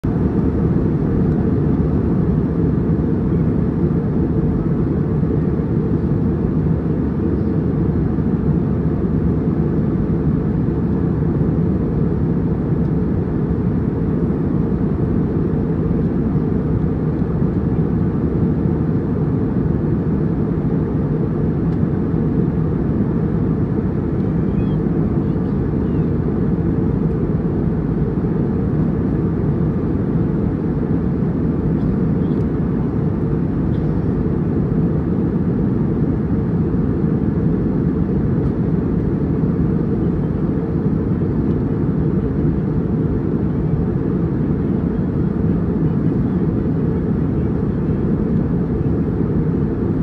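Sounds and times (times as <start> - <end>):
airliner cabin rumble: 0.0 - 50.0.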